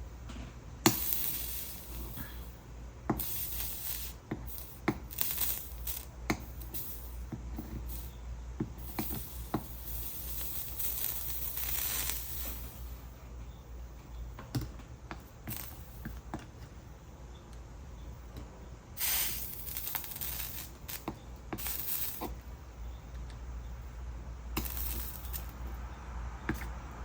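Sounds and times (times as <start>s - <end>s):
high hiss: 0.8s - 13.4s, 15.2s - 16.3s, 18.9s - 27.0s.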